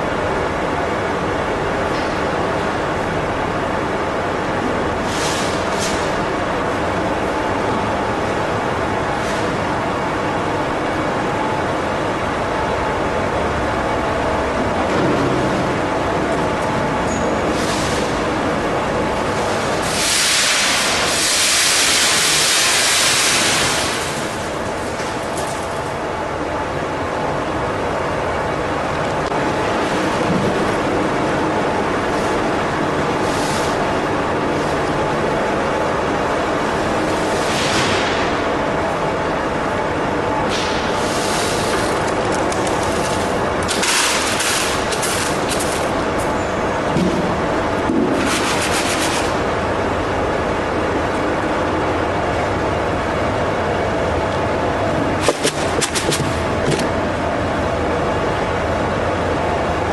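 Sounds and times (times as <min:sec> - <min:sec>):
steady machine noise: 0:00.0 - 0:59.9.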